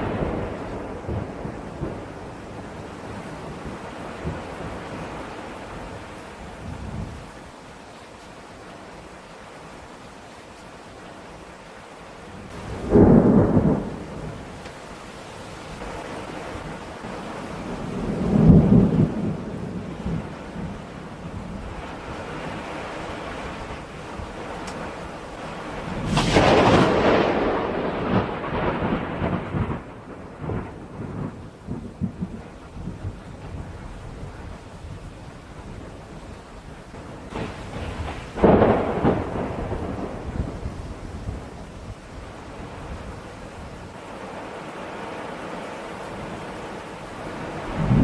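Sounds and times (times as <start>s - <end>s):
thunderclap rumbling: 0.0s - 7.3s, 12.4s - 48.0s
steady rain: 0.0s - 48.0s.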